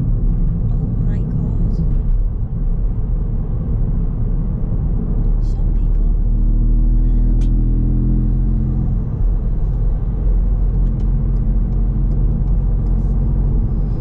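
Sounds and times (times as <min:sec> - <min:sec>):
car engine drone: 0:00.0 - 0:14.0
road rumble: 0:00.0 - 0:14.0.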